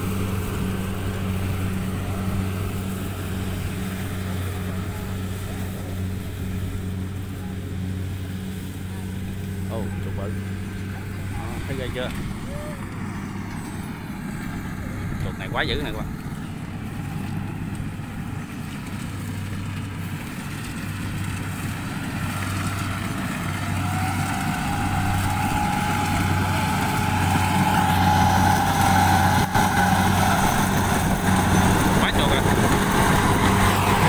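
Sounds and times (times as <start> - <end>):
combine harvester engine hum: 0.0 - 34.0.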